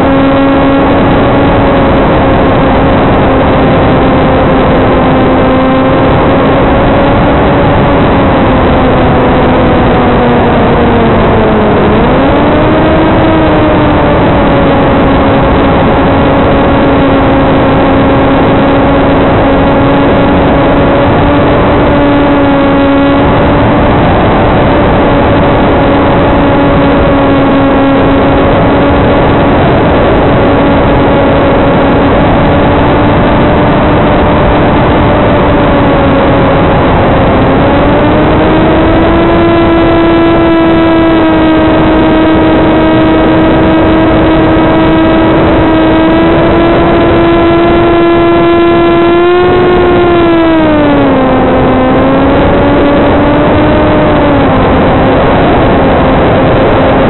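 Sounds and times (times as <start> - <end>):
electric motor and propeller humming: 0.0 - 57.0.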